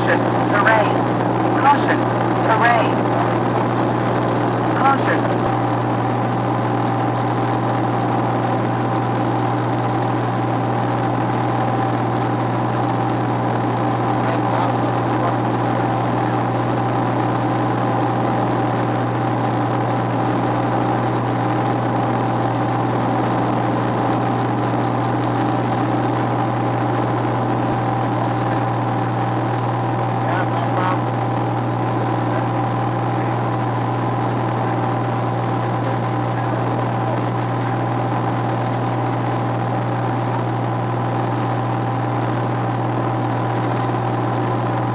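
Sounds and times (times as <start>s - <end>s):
propeller aircraft engine drone: 0.0s - 44.9s.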